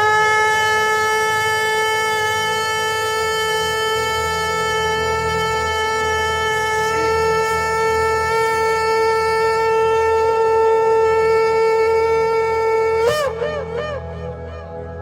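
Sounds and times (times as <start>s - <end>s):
shofar blowing: 0.0s - 14.9s.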